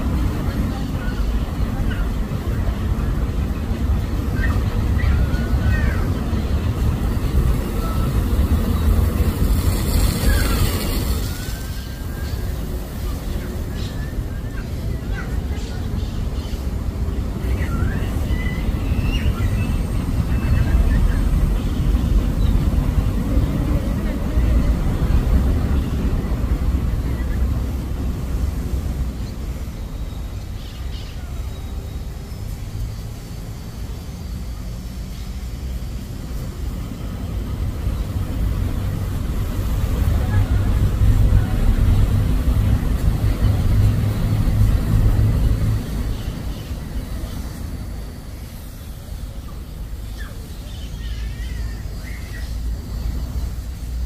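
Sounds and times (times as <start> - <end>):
low rumbling outdoor background noise: 0.0 - 54.0.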